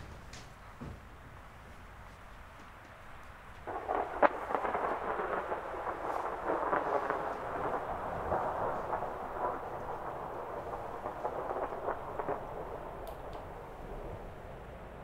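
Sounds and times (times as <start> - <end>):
rain falling: 0.0 - 15.0
thunder crack and roll: 2.9 - 15.0.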